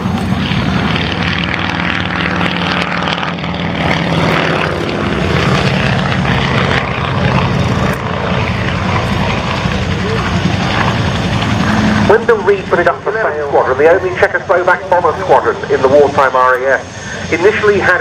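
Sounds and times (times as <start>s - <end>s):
propeller aircraft engines droning: 0.0s - 18.0s.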